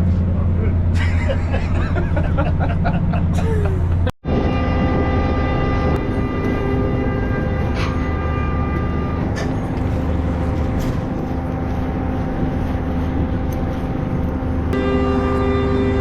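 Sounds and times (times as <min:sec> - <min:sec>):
boat engine and deck machinery drone: 0:00.0 - 0:16.0.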